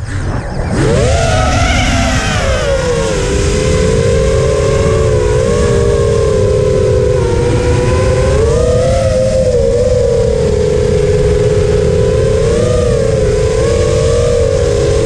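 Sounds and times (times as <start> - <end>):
drone motors whining: 0.0 - 15.0
wind noise: 0.0 - 15.0.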